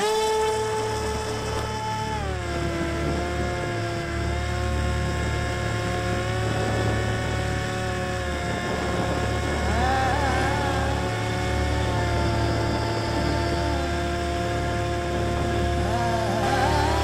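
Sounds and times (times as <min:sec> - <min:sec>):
model plane motor whining: 0:00.0 - 0:17.0
wind buffeting camera: 0:00.0 - 0:17.0.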